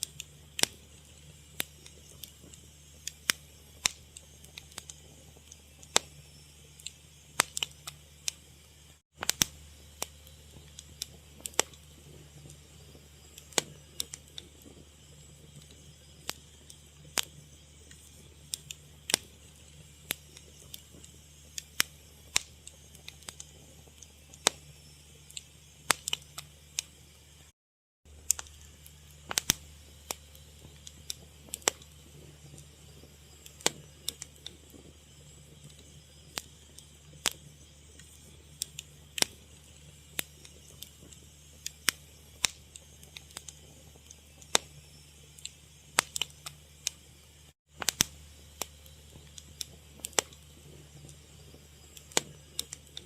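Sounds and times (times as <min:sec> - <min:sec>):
low steady hum: 0:00.0 - 0:27.5, 0:28.1 - 0:53.0
wood fire crackling: 0:00.0 - 0:27.5, 0:28.1 - 0:53.0.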